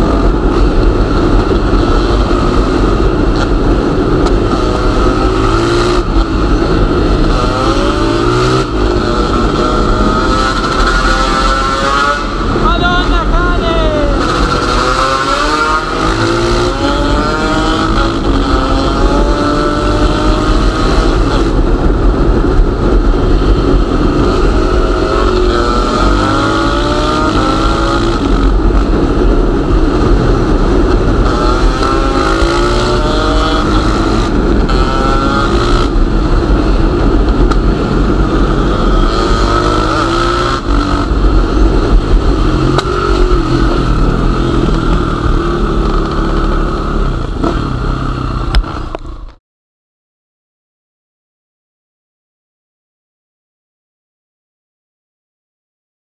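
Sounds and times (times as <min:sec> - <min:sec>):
two-stroke motorcycle engine revving: 0:00.0 - 0:49.4.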